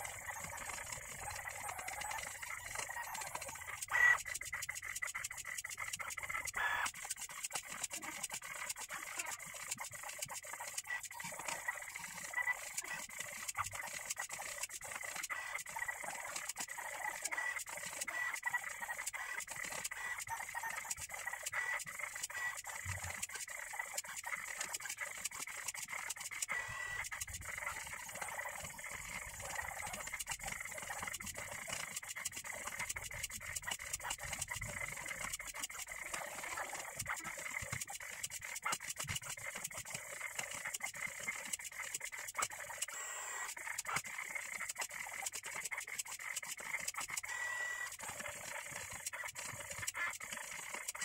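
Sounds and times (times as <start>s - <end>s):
stepper motors ticking and whining: 0.0s - 51.0s.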